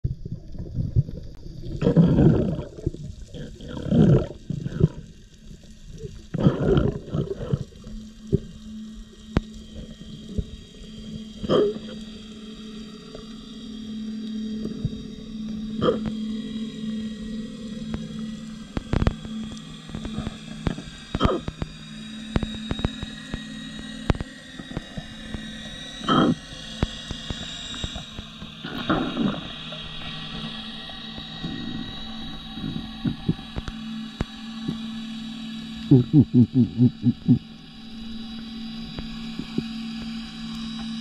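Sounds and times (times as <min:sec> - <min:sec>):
underwater boat engine drone: 0:00.0 - 0:41.0
water rushing near microphone: 0:00.1 - 0:41.0.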